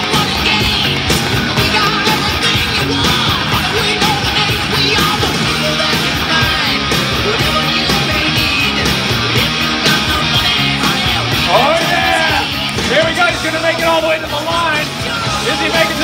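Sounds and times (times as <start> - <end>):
loud rock music over speaker: 0.0 - 16.0.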